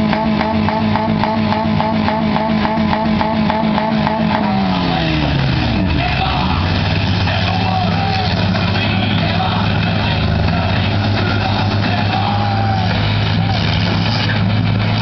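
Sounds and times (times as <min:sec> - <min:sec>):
car engines running hard: 0:00.0 - 0:15.0.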